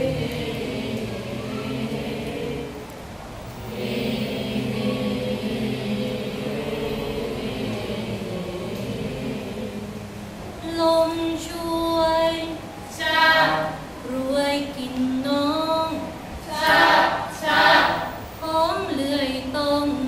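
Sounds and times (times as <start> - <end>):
women singing a slow chant: 0.0 - 20.0.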